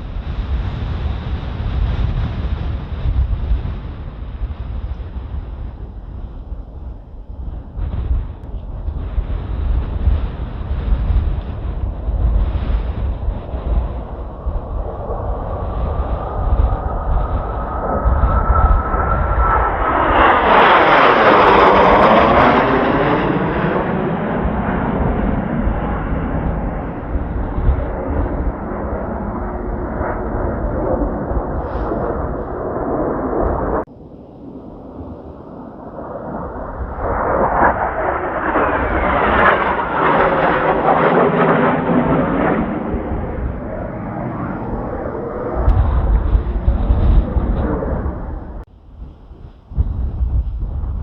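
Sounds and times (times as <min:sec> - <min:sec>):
jet roar flying past: 0:00.0 - 0:51.0
wind rumble on microphone: 0:00.0 - 0:51.0.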